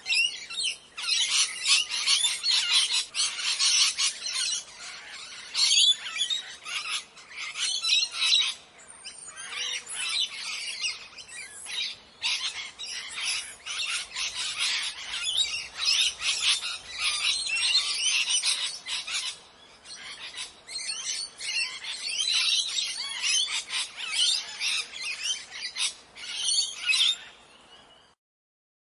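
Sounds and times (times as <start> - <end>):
parrots squawking and chirping: 0.0 - 27.3.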